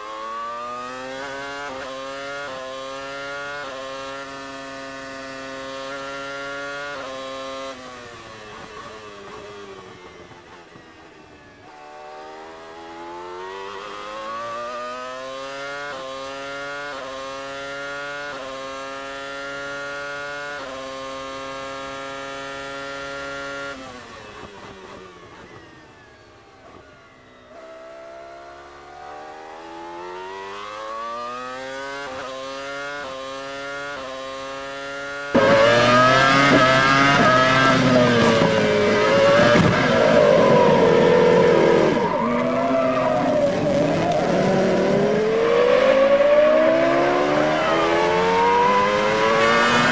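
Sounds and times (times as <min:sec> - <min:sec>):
racing car engine revving through gears: 0:00.0 - 0:26.8, 0:27.4 - 0:49.9.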